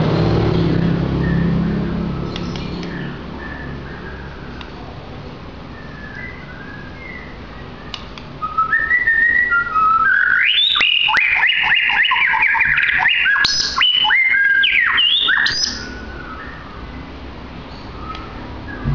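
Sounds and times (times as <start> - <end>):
songbird whistling: 0.8 - 4.8, 5.6 - 18.9.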